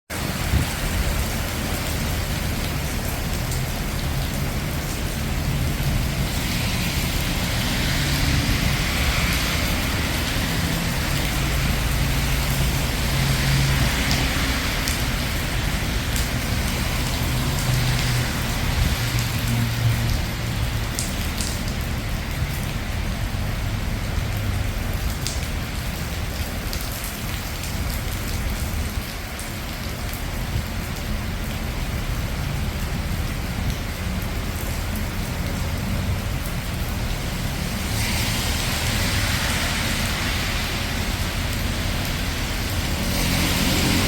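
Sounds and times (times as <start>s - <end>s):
low rumble of traffic: 0.1s - 44.0s
rain falling on streets: 0.1s - 44.0s
vehicles passing on wet road: 0.1s - 44.0s.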